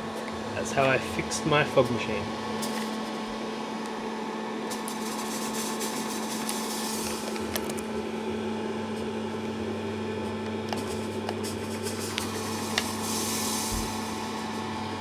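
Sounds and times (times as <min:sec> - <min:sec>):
fog machine fan humming: 0:00.0 - 0:15.0.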